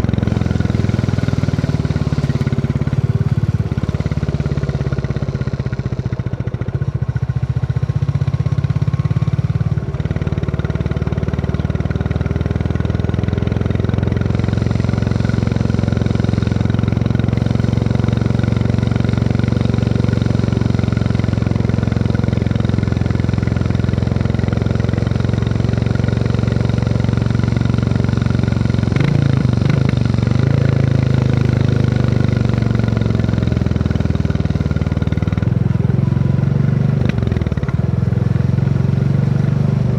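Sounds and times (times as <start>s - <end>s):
motorcycle engine thumping: 0.0s - 9.0s, 13.8s - 39.9s
engine knock: 0.0s - 39.9s.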